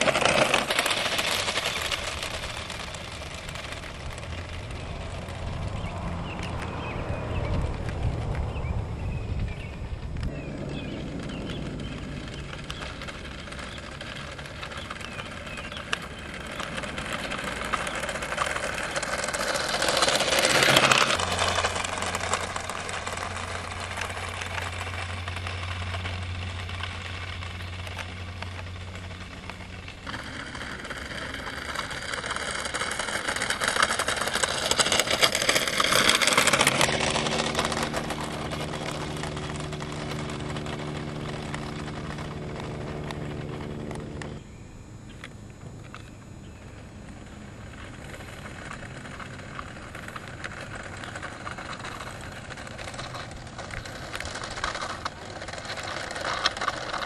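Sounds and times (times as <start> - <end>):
vehicle passing close: 0.0 - 45.8
low hum: 0.0 - 57.0.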